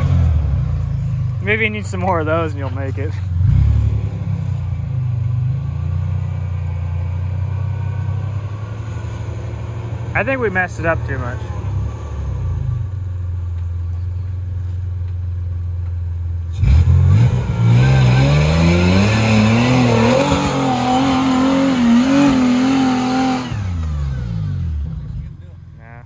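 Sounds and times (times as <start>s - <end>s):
truck engine revving: 0.0s - 13.2s, 16.5s - 26.0s.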